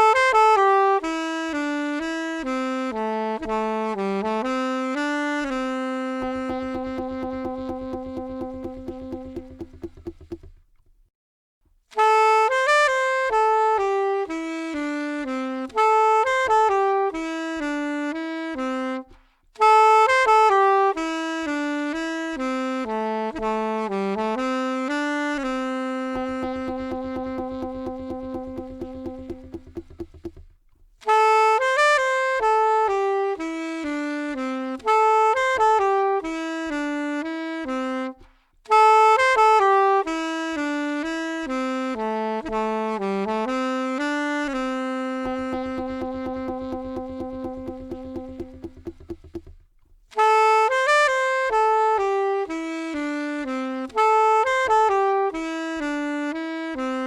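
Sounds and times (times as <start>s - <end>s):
solo saxophone melody: 0.0s - 10.8s, 11.8s - 57.0s.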